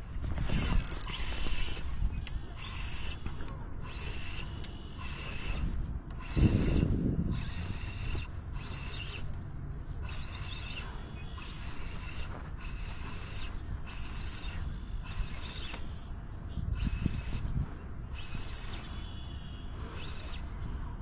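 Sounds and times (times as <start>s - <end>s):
fishing reel gears whirring: 0.0s - 21.0s.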